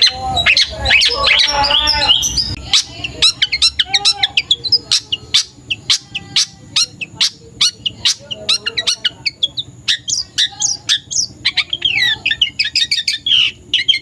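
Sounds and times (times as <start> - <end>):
bird warbling and chirping: 0.0 - 14.0.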